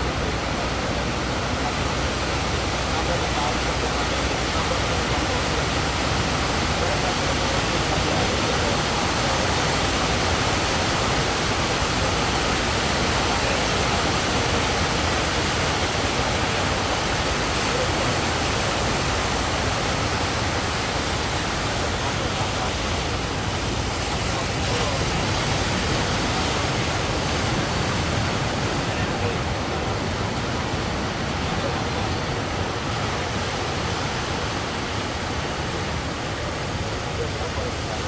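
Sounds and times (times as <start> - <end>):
heavy surf roaring: 0.0 - 38.0.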